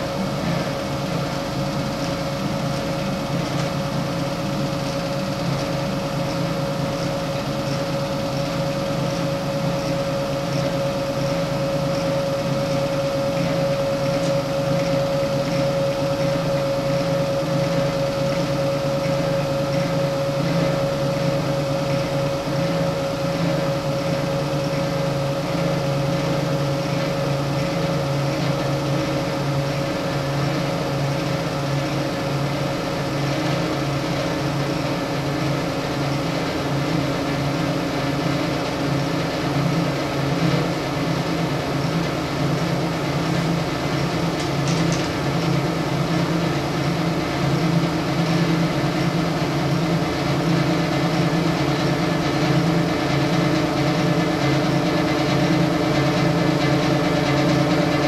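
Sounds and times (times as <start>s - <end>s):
milling machine motors humming: 0.0s - 58.0s.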